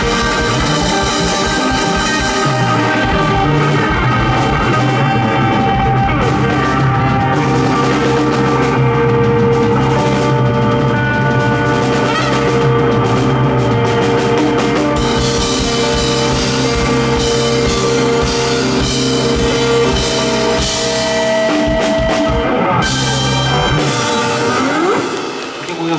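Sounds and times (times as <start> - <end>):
drum kit: 0.0 - 25.9
electric guitar chords: 0.0 - 25.9.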